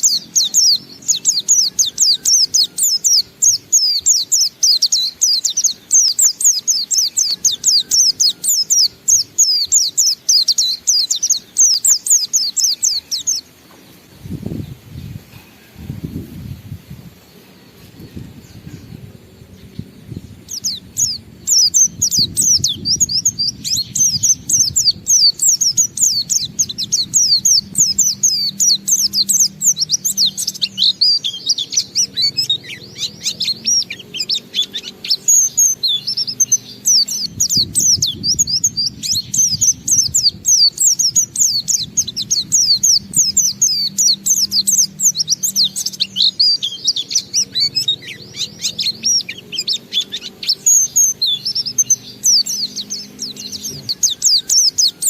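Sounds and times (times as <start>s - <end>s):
bird singing high sliding chirps: 0.0s - 55.0s.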